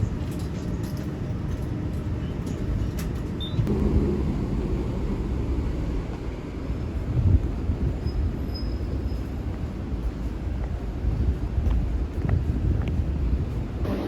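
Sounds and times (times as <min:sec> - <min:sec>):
transit vehicle rumble: 0:00.0 - 0:14.0.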